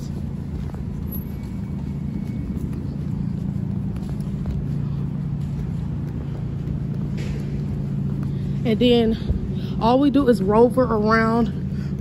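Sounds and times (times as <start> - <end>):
faint footsteps on asphalt: 0.0 - 12.0
low mechanical hum: 0.0 - 12.0.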